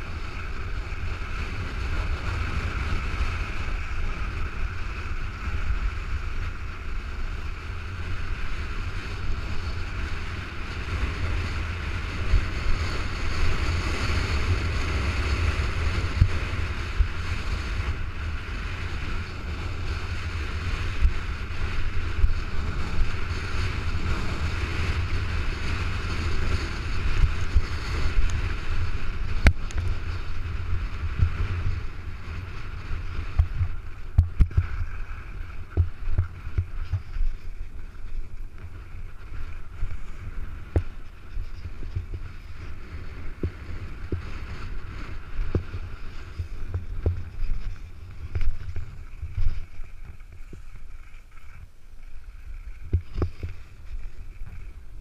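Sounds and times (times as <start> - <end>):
skis scraping packed snow: 0.0 - 55.0
wind buffeting microphone: 0.0 - 55.0.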